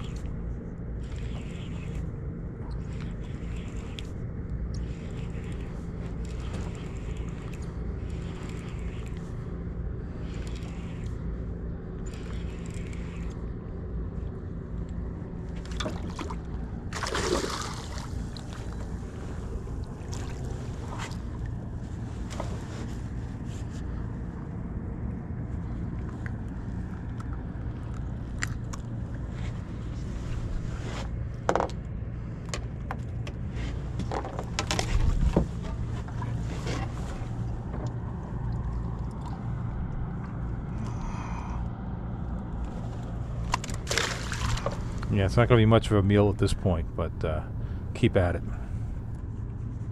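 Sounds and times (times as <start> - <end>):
boat motor humming: 0.0 - 49.9.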